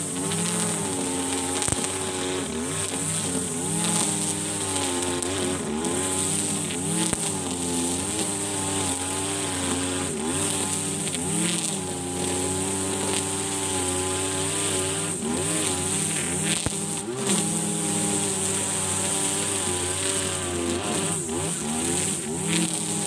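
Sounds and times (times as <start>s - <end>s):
brush cutter engine at full throttle: 0.0s - 23.0s
high whir of spinning line: 0.0s - 23.0s.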